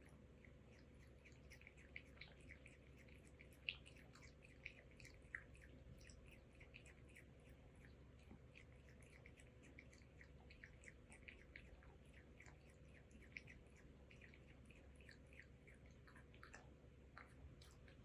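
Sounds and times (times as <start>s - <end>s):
cat lapping milk: 0.0s - 18.0s.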